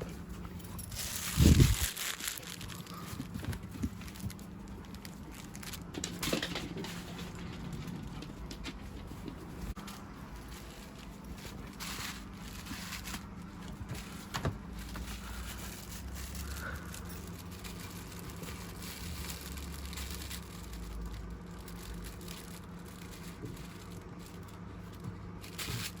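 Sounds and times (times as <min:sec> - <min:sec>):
faint steady hum: 0:00.0 - 0:26.0
dog playing with crinkling toy: 0:00.2 - 0:26.0.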